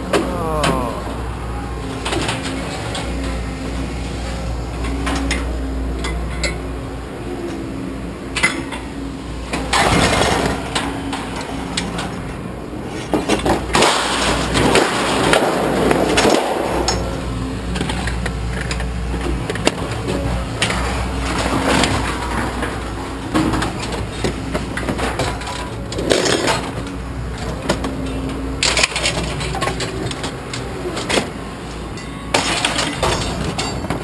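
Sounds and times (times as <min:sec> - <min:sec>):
engine droning: 0:00.0 - 0:34.0.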